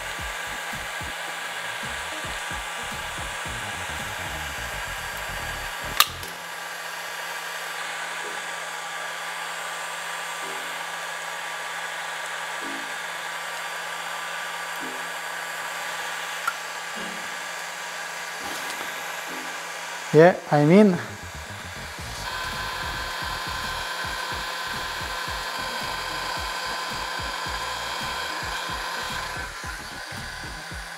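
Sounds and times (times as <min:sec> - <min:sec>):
heat gun blower running: 0:00.0 - 0:30.9.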